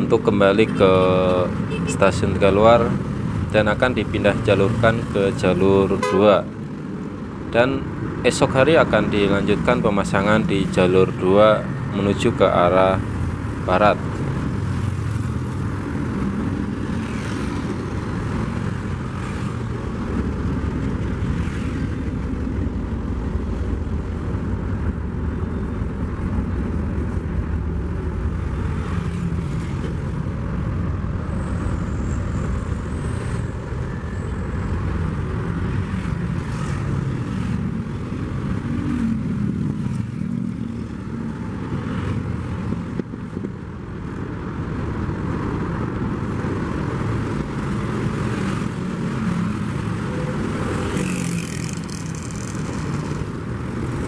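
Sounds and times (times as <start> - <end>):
train rumbling along track: 0.0 - 54.0.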